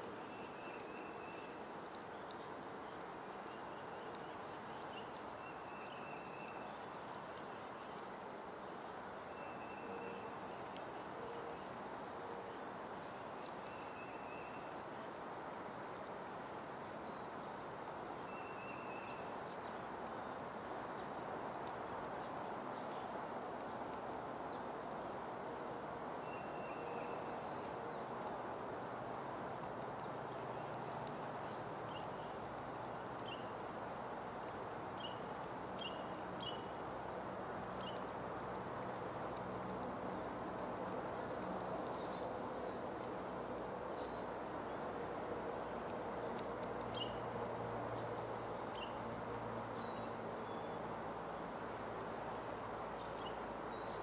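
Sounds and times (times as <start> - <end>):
background hiss: 0.0 - 54.0
crickets trilling: 0.0 - 54.0.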